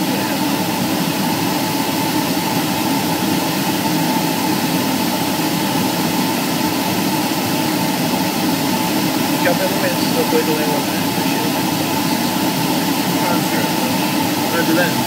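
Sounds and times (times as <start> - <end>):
airplane engine drone: 0.0 - 15.0
faint steady whine: 0.0 - 15.0.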